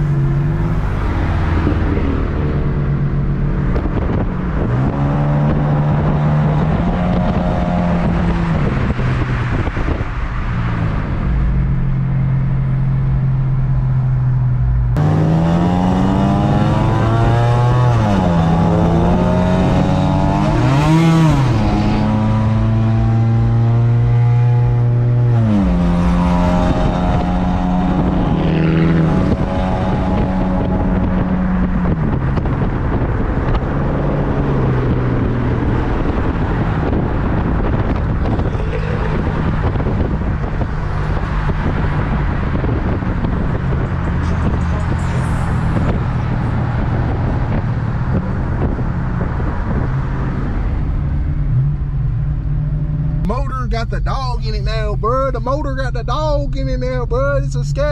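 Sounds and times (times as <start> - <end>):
car engine droning: 0.0 - 57.9
road noise: 0.0 - 57.9.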